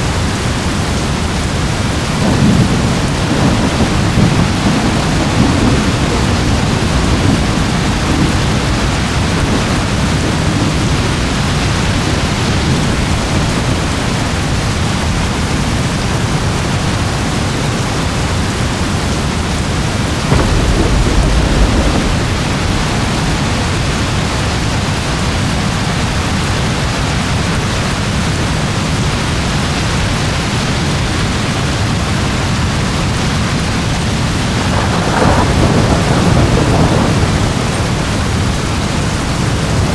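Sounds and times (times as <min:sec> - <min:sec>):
heavy rain: 0:00.0 - 0:39.9
rolling thunder: 0:00.1 - 0:39.9.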